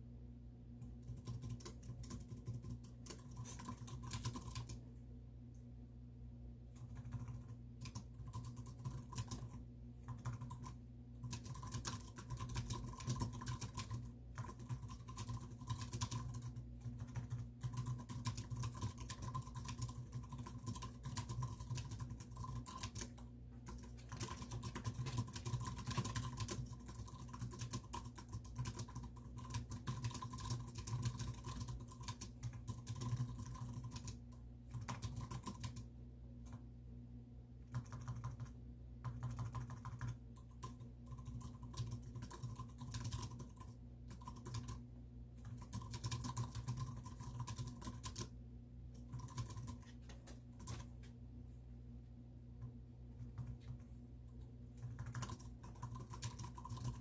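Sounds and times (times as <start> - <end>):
steady low hum: 0.0 - 57.0
fast keyboard typing: 0.8 - 4.8, 6.7 - 36.6, 37.6 - 51.0, 53.2 - 53.9, 54.7 - 57.0.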